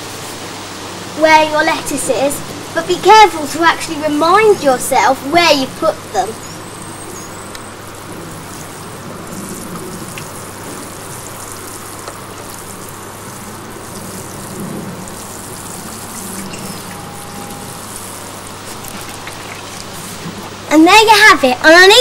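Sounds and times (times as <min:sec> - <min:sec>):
water sprinkling on soil: 0:00.1 - 0:20.7.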